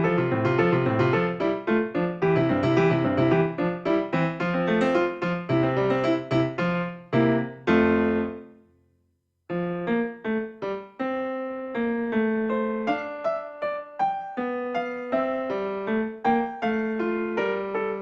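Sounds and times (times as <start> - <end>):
gentle piano melody: 0.0 - 8.6, 9.5 - 18.0.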